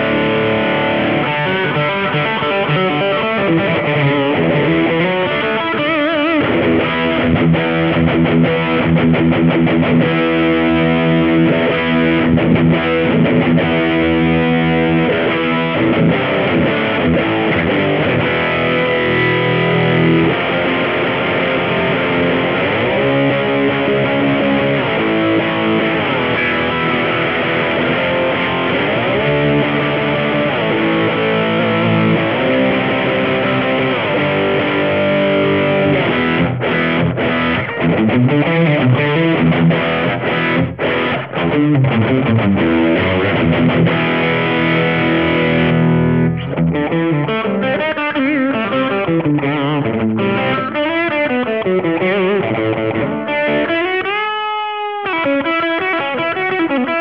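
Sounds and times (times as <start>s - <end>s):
distorted electric guitar riffs: 0.0s - 57.0s.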